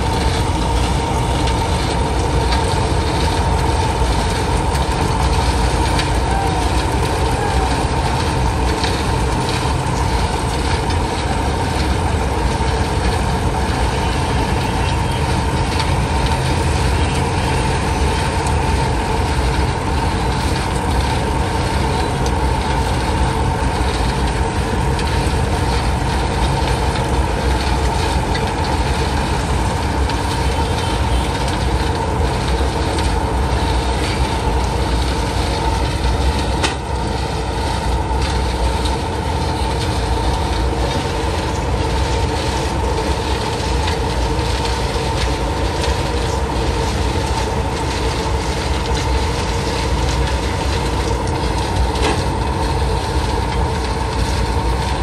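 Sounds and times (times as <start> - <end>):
drum mixer machinery din: 0.0 - 55.0
steady high hum: 0.0 - 55.0.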